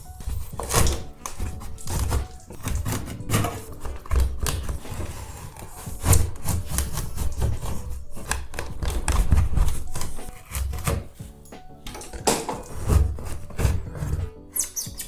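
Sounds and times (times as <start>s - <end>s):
tiles cracking and knocking: 0.0s - 11.2s, 11.8s - 15.0s
scraper scraping ceiling tiles: 0.0s - 11.3s, 11.9s - 15.0s.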